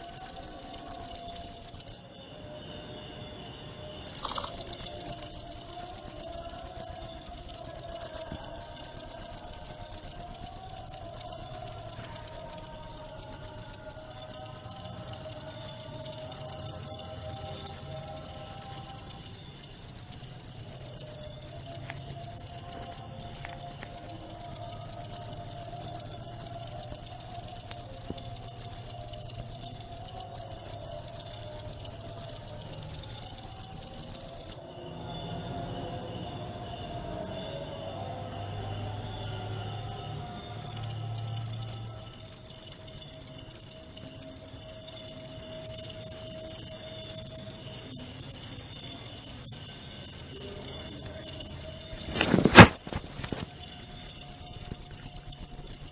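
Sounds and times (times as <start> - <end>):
cricket chirping trill: 0.0 - 55.9.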